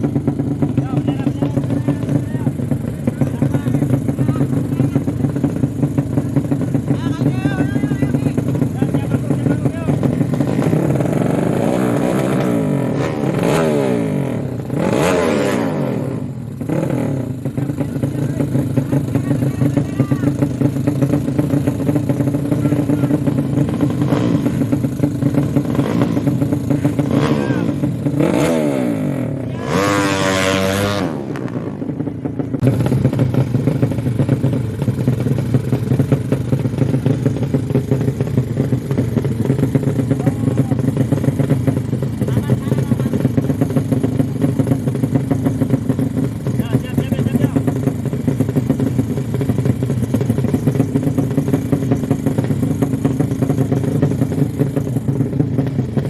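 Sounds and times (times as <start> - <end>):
motorcycle engines at full throttle: 0.0 - 56.0.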